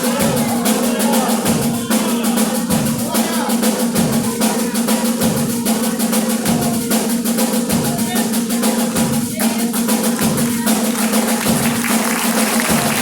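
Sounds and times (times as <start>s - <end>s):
percussion band drumming: 0.0s - 13.0s.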